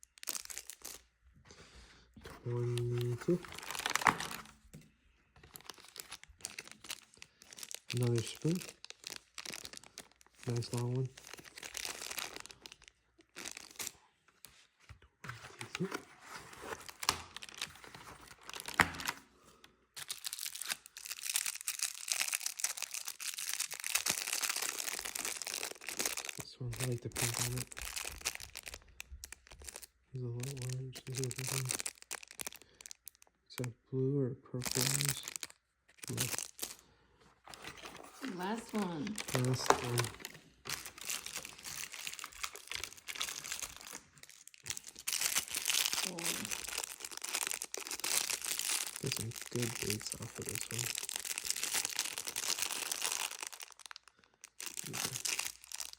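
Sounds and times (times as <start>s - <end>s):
packaging crinkling and tearing: 0.0s - 1.2s, 2.2s - 4.8s, 5.4s - 33.4s, 34.6s - 55.9s.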